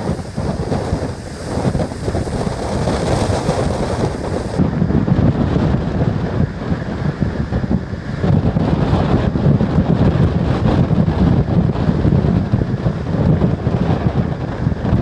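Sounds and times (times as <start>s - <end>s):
ferry rushing through rough water: 0.0s - 15.0s
wind buffeting microphone: 0.0s - 15.0s.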